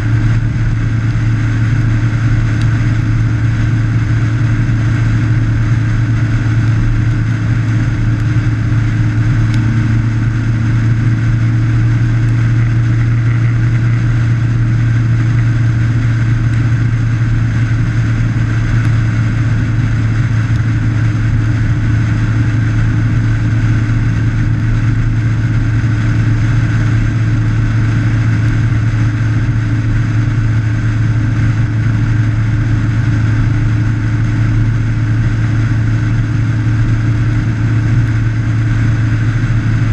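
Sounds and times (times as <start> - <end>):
motorcycle engine droning: 0.0 - 39.9
road noise: 0.0 - 39.9.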